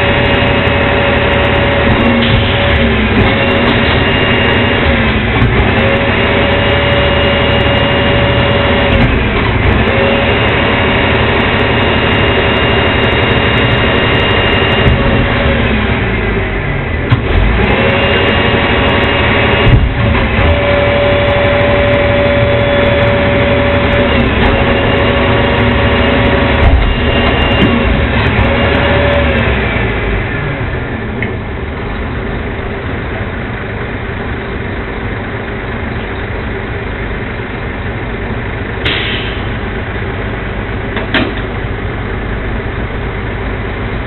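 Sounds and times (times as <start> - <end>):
diesel engine revving: 0.0 - 44.0
hydraulic whine: 0.0 - 44.0.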